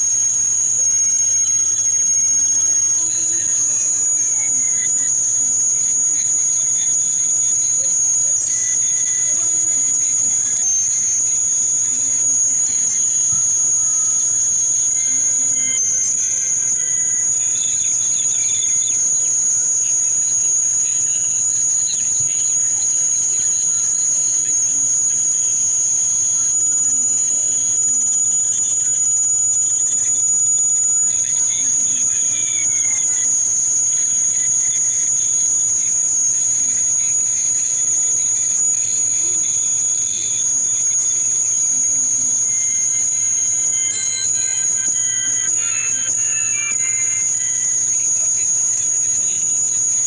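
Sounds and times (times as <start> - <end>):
high-pitched whine: 0.0 - 50.0.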